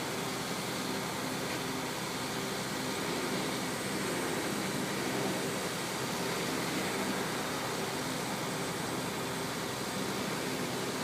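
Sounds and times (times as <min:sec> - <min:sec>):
constant hiss: 0:00.0 - 0:11.0
diesel engines running: 0:00.0 - 0:11.0.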